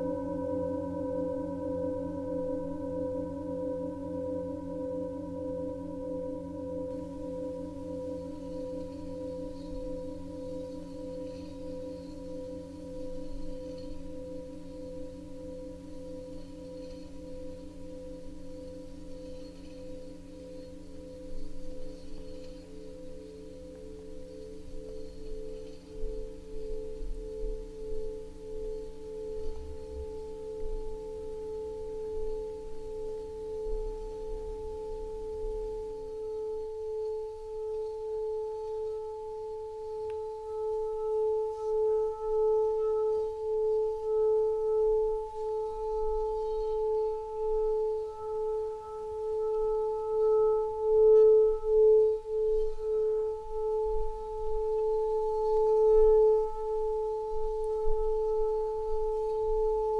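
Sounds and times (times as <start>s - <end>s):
singing bowl tones: 0.0s - 59.9s.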